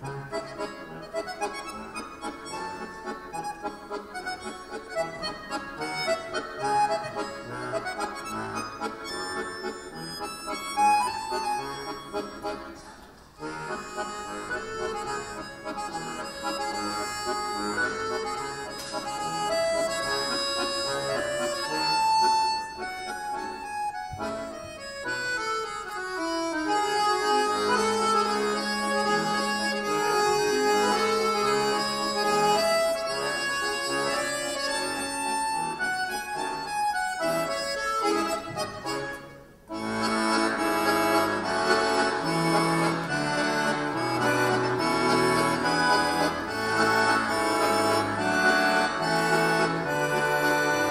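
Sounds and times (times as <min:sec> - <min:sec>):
button accordions playing: 0:00.0 - 0:50.9.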